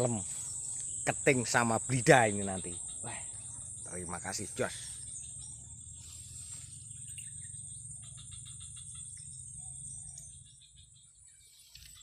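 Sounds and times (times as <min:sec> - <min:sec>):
high-pitched insect drone: 0:00.0 - 0:12.0
rapid insect chirps: 0:00.0 - 0:12.0.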